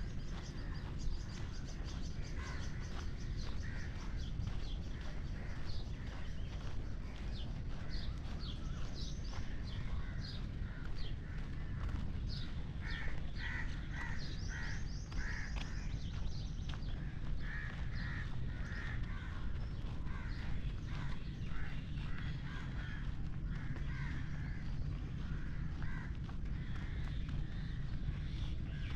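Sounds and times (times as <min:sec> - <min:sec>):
birds chirping: 0:00.0 - 0:28.9
harsh repeated bird calls: 0:00.0 - 0:28.9
steady low rumble: 0:00.0 - 0:28.9.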